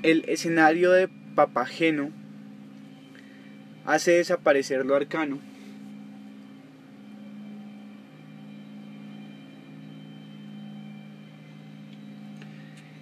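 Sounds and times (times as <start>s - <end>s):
soft low ambient drone: 0.0s - 13.0s.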